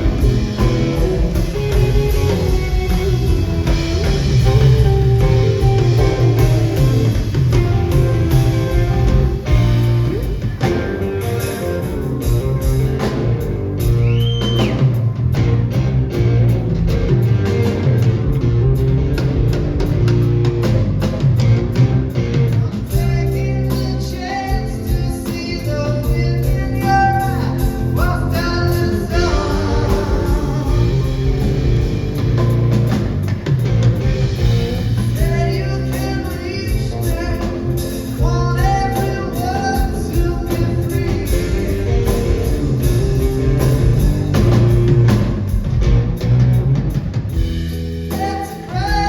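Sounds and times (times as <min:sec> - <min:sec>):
bending lead guitar notes: 0:00.0 - 0:48.9
blues-rock band playing: 0:00.0 - 0:49.0.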